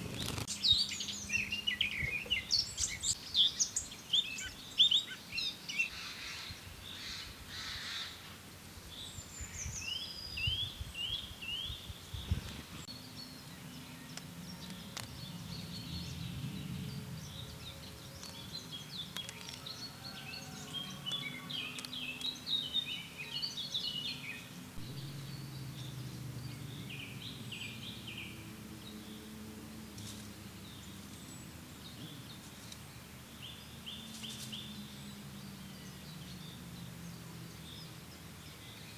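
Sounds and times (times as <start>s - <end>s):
songbirds chirping and singing: 0.0s - 8.2s, 8.9s - 38.9s.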